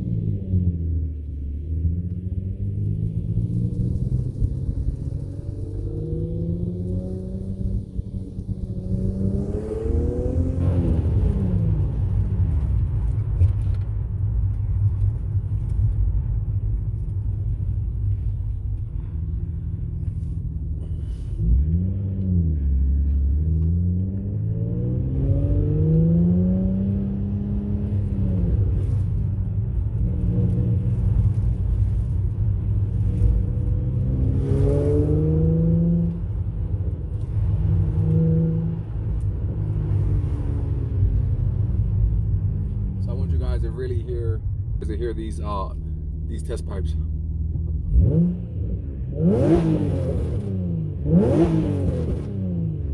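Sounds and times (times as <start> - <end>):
car engine revving: 0.0 - 13.8, 19.3 - 52.9.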